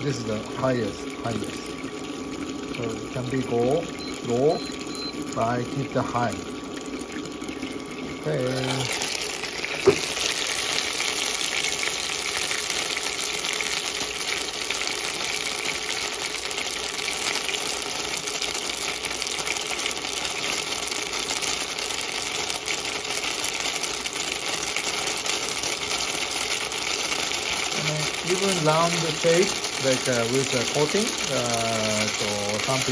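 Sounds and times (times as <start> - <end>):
dumplings sizzling in oil: 0.0 - 32.9.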